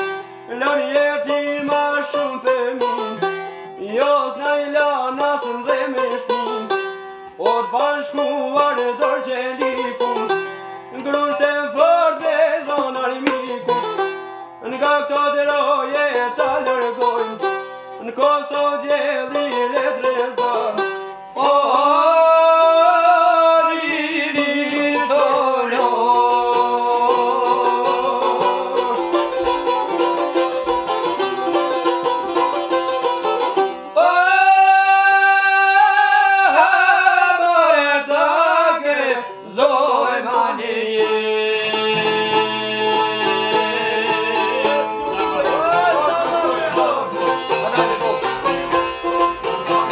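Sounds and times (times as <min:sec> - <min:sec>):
men singing folk song: 0:00.0 - 0:06.7, 0:07.3 - 0:14.0, 0:14.6 - 0:30.9, 0:33.8 - 0:49.9
plucked lutes: 0:00.0 - 0:49.9.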